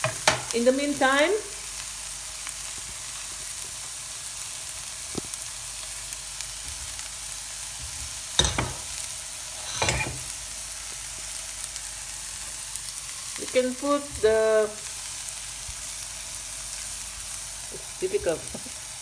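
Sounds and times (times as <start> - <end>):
onion and garlic sizzling in oil: 0.0 - 19.0.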